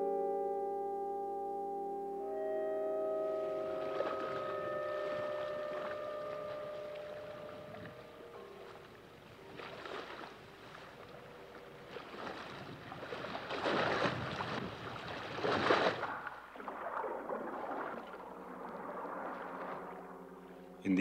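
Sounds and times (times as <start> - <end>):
water rushing along boat hull: 2.3 - 20.8.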